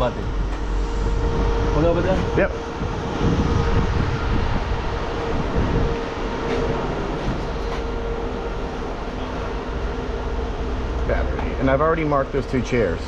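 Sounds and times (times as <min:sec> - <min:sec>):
mechanical rumble with hum: 0:00.0 - 0:13.0.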